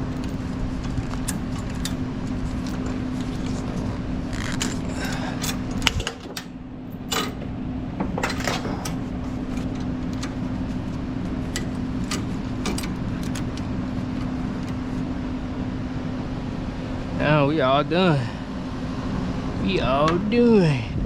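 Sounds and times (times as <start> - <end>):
engine idling drone: 0.0 - 21.0.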